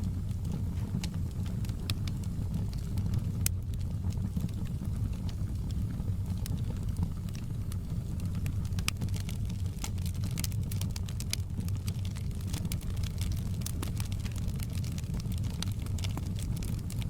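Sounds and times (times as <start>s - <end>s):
fire crackling and popping: 0.0s - 17.0s
low rumble of burning fire: 0.0s - 17.0s.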